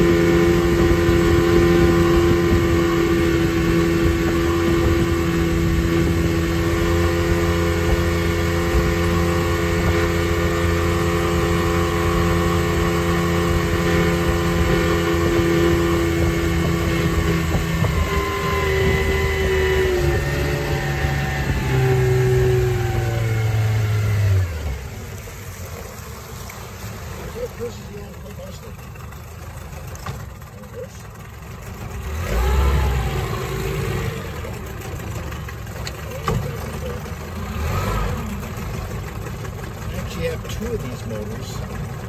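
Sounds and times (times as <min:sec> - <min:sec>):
outboard motor running: 0:00.0 - 0:42.0
wake water rushing: 0:00.0 - 0:42.0.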